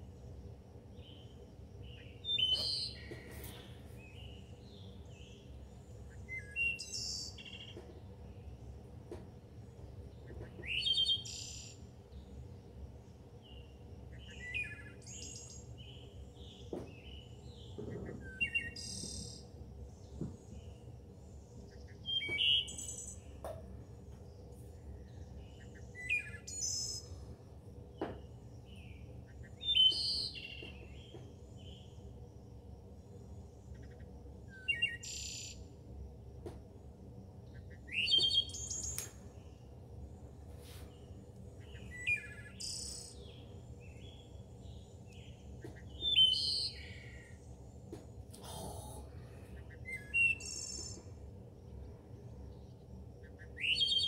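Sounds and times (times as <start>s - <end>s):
songbird chirping: 0.0s - 35.7s, 37.4s - 54.0s
low steady hum: 0.0s - 54.0s.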